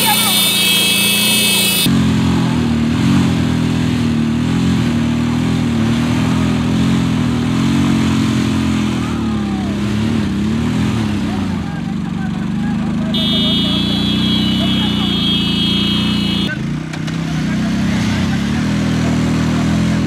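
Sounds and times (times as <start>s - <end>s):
motorcycle engines running hard: 0.0s - 20.0s.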